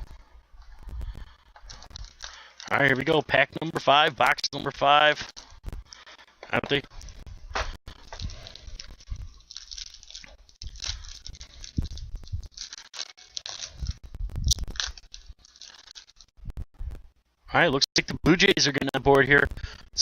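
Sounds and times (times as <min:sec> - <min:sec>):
card packaging crinkling: 0:00.0 - 0:16.6.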